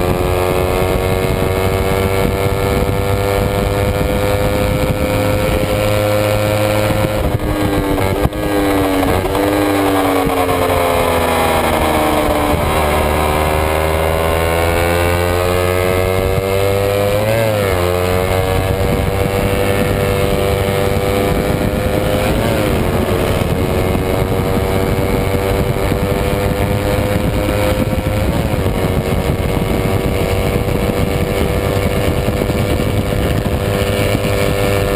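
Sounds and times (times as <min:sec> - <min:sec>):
motorcycle engine at high revs: 0:00.0 - 0:34.9.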